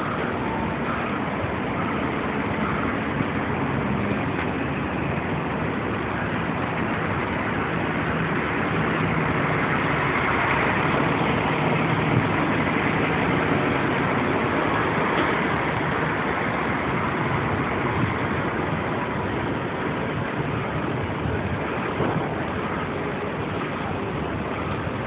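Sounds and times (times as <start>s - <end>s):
even rushing noise: 0.0s - 25.0s
ship engines humming: 0.0s - 25.0s.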